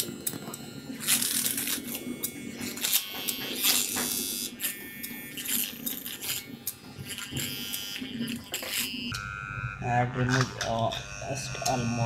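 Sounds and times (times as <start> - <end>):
transformer buzzing: 0.0 - 12.0.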